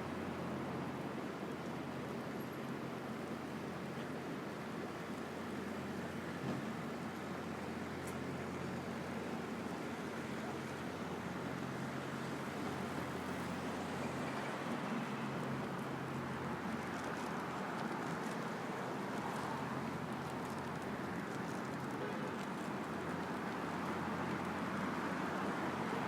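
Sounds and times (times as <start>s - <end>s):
traffic noise: 0.0s - 26.0s.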